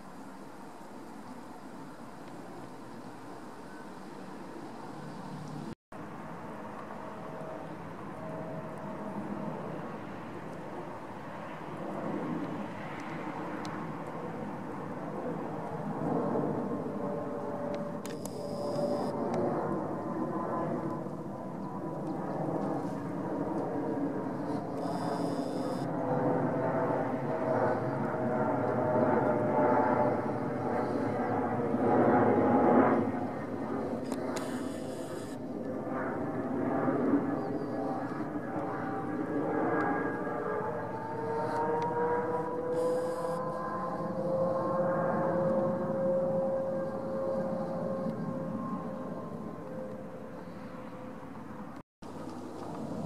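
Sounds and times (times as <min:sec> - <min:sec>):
jet airliner flying overhead: 0:00.0 - 0:53.0.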